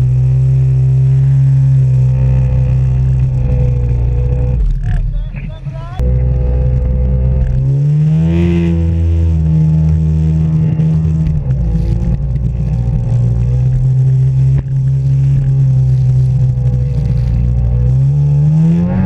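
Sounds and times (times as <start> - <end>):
jet ski engine revving: 0.0 - 19.0.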